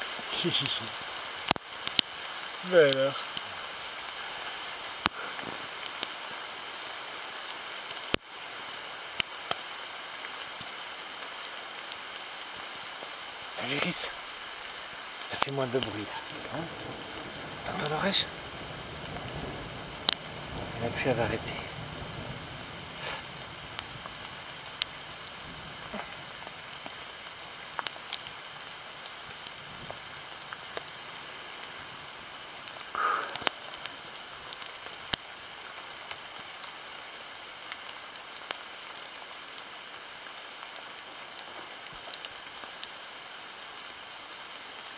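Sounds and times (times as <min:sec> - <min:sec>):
rain on leaves: 0:00.0 - 0:44.9
rustle: 0:00.0 - 0:44.9.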